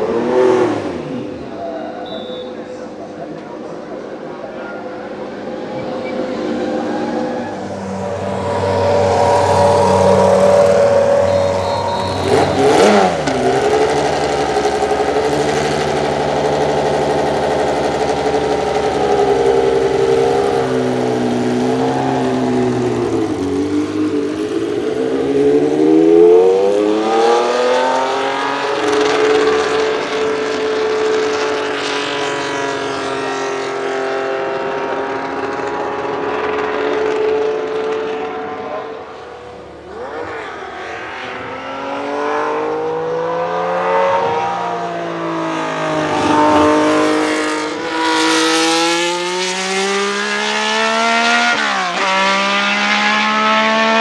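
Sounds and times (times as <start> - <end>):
racing engine revving: 5.0 - 54.0.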